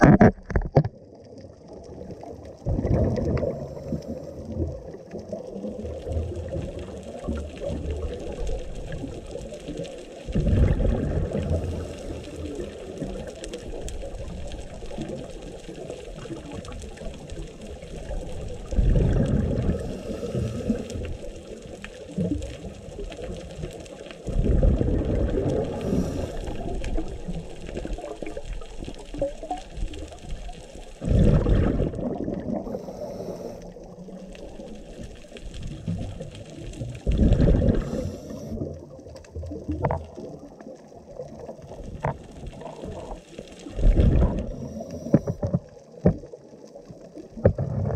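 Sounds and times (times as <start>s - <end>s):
muffled underwater rumble: 0.0s - 47.9s
scuba exhaled bubbles gushing: 0.0s - 47.9s.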